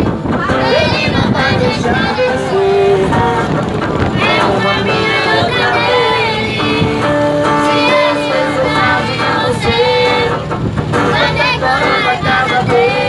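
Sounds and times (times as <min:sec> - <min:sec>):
forro music: 0:00.0 - 0:13.0
woman and child singing: 0:00.4 - 0:03.2, 0:04.2 - 0:10.4, 0:11.1 - 0:13.0.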